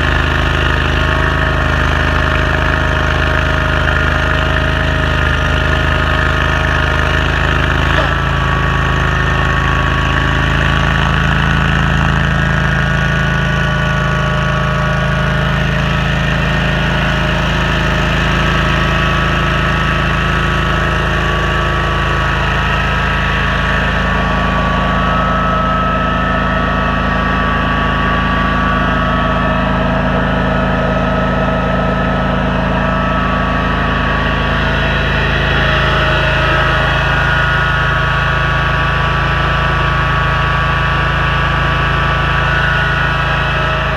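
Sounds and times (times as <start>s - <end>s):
stump grinder engine running: 0.0s - 43.9s.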